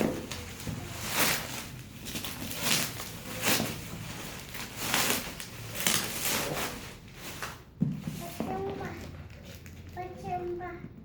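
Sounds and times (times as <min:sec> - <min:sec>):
package scraping and rustling: 0:00.0 - 0:10.0.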